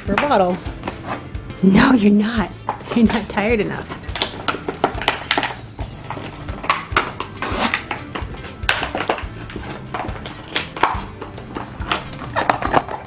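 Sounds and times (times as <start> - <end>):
dog chewing plastic bottle: 0.0 - 1.6, 2.6 - 13.0.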